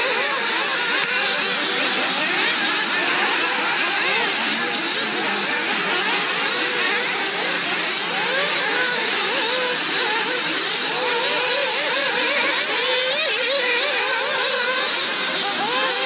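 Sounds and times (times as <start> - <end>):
rc car engines revving: 0.0 - 16.0.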